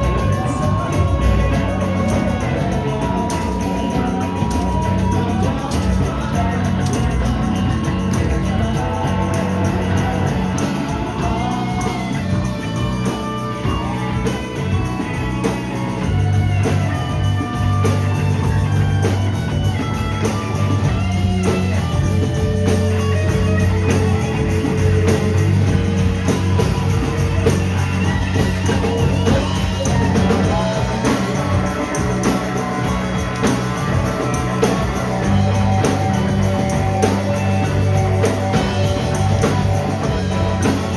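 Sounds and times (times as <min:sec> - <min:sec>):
bass guitar holding long notes: 0:00.0 - 0:40.9
drum kit: 0:00.0 - 0:40.9
electric guitar: 0:00.0 - 0:40.9.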